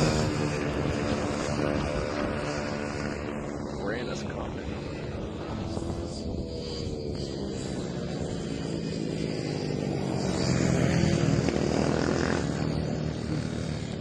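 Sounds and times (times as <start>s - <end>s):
mini motorcycle engine revving: 0.0s - 14.0s.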